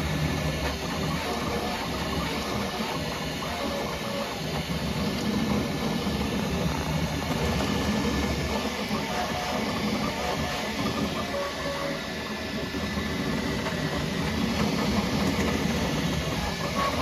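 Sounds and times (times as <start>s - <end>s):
printer motors whirring: 0.0s - 17.0s
steady mechanical hum: 0.0s - 17.0s.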